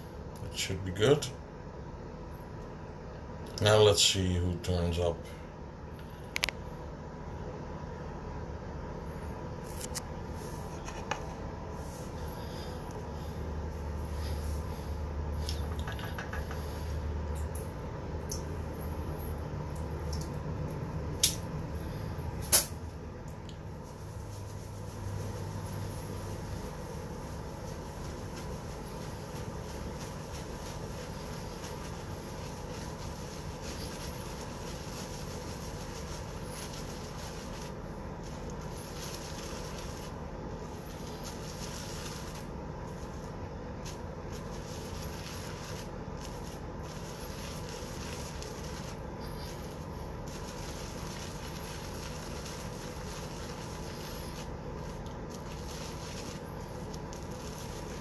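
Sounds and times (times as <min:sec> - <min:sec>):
low rumble and hiss: 0:00.0 - 0:58.0.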